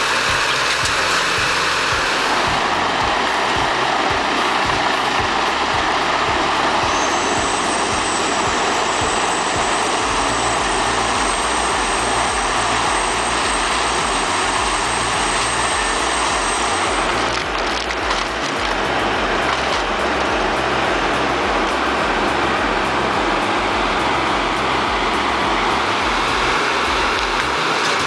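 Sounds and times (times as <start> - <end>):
thin high whine: 0.0 - 28.0.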